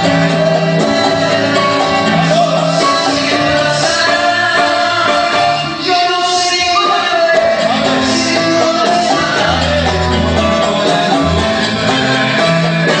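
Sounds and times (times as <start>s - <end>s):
live pop band music: 0.0s - 13.0s.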